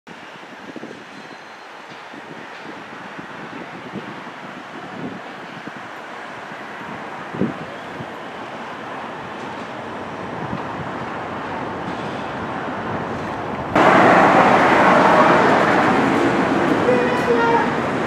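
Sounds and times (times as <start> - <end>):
outdoor background noise: 0.1 - 18.0
loud dense noise: 3.1 - 18.0.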